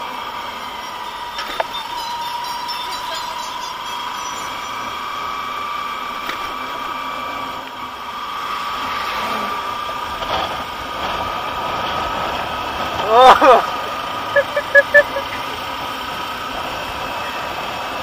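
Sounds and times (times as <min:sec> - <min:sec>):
motorcycle engine cruising: 0:00.0 - 0:18.0
steady whine: 0:00.0 - 0:18.0
wind and road noise: 0:00.0 - 0:18.0.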